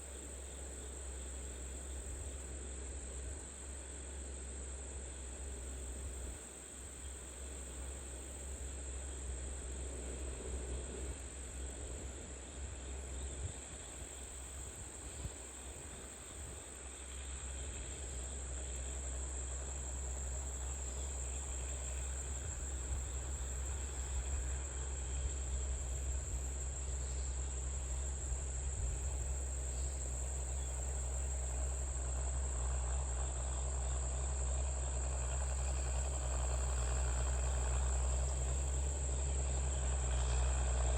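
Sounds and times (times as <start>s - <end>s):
insect chorus: 0.0s - 40.9s
tractor engine running: 5.2s - 40.9s.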